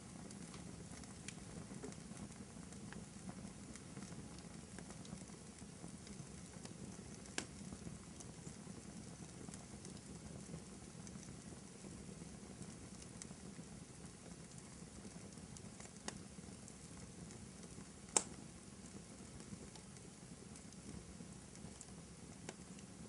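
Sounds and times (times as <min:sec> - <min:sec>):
fire crackles and pops: 0:00.0 - 0:23.0
fire hissing and rumbling: 0:00.0 - 0:23.0.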